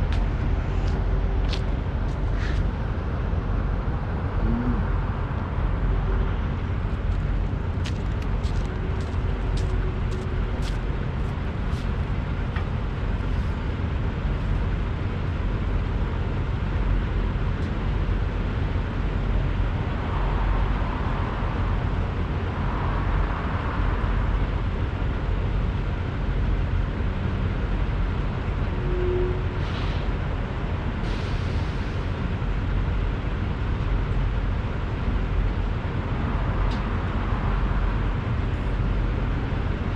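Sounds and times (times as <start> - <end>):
diesel trucks idling: 0.0 - 39.9.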